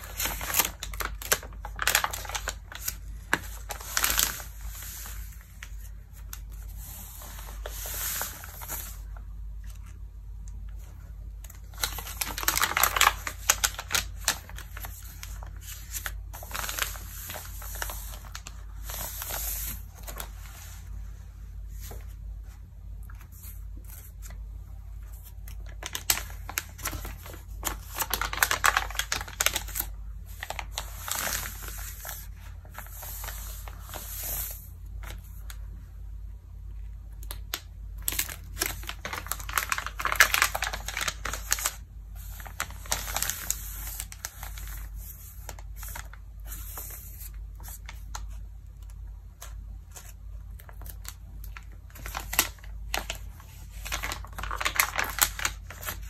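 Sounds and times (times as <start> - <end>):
magazine pages rustling: 0.0 - 10.1, 10.7 - 20.9, 21.6 - 35.6, 37.3 - 56.0.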